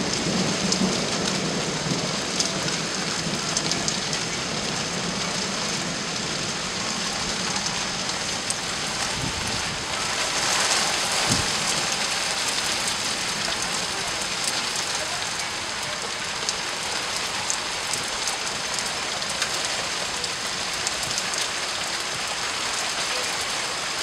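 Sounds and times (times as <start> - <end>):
steady rain falling: 0.0 - 24.0
raindrops ticking: 0.1 - 24.0.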